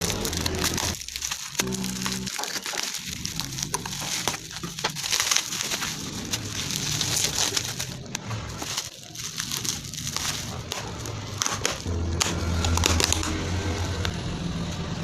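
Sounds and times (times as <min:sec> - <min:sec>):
packaging crinkling: 0:00.0 - 0:13.4.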